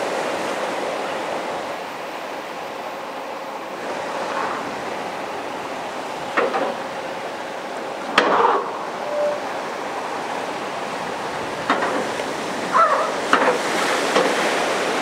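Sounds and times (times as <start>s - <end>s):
surf washing in: 0.0s - 15.0s.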